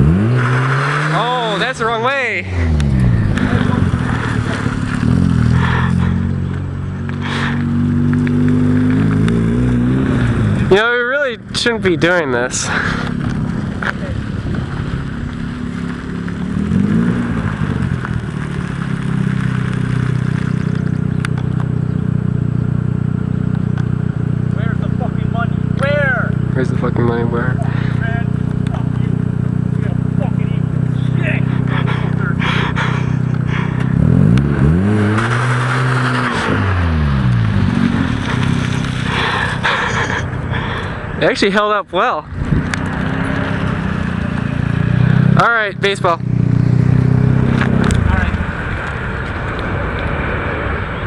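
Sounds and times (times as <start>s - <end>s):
rotary engine revving and droning: 0.0s - 41.4s, 42.2s - 51.0s.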